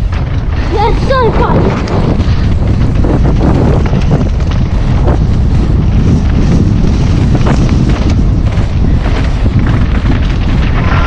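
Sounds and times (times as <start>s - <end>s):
bike knocks and rattles: 0.0s - 11.0s
wind rumbling on microphone: 0.0s - 11.0s.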